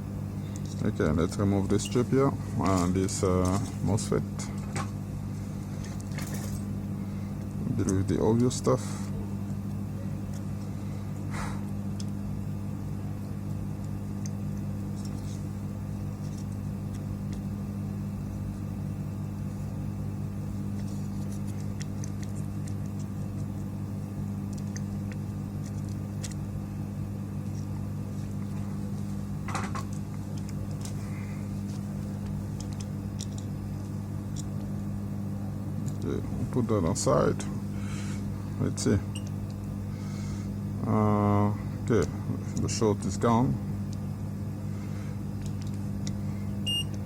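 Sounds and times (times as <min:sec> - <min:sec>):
hot-air station humming: 0:00.0 - 0:47.0.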